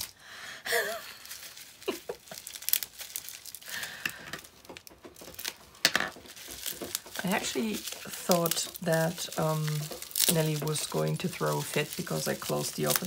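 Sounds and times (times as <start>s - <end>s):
bubble-wrap pouch crinkling: 0.0s - 13.0s.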